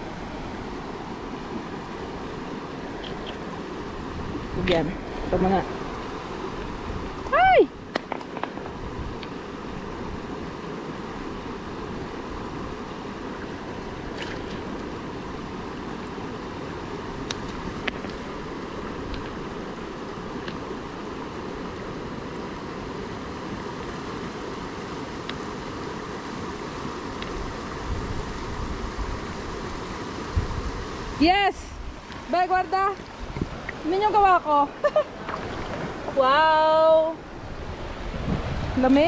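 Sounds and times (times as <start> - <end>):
stream running over stones: 0.0 - 37.2.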